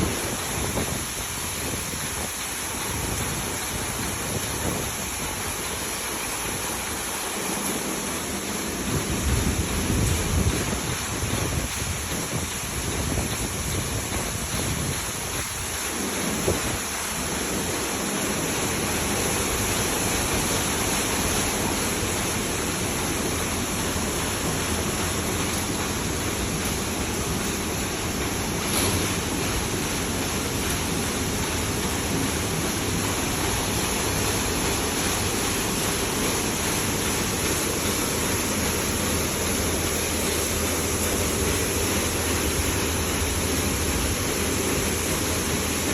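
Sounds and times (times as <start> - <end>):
car wash water spraying: 0.0 - 45.9.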